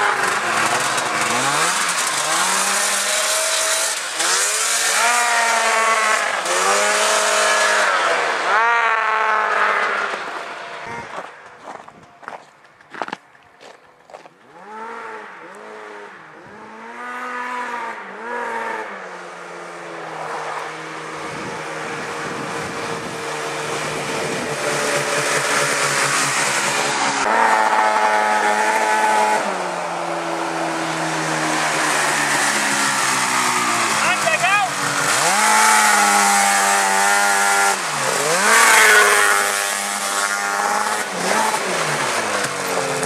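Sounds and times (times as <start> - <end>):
buggy engine revving: 0.0 - 12.4, 14.1 - 43.0.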